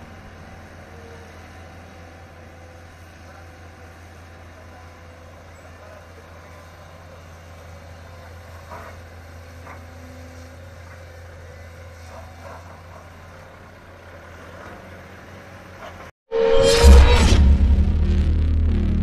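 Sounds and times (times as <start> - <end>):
excavator diesel engine running: 0.0 - 16.1.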